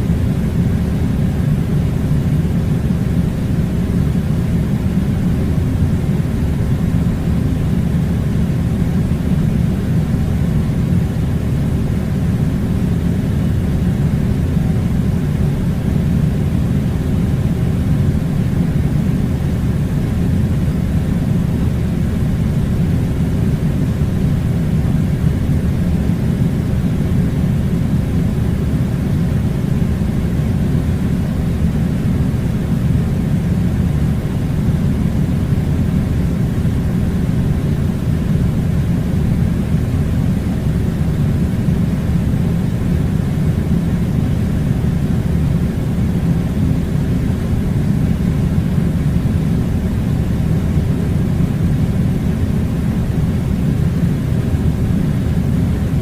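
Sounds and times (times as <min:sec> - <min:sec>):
air conditioner rumbling: 0:00.0 - 0:56.0
faint hum: 0:00.0 - 0:56.0.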